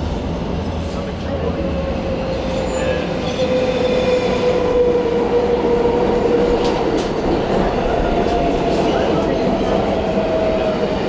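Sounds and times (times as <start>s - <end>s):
subway train whine and rumble: 0.0s - 11.0s.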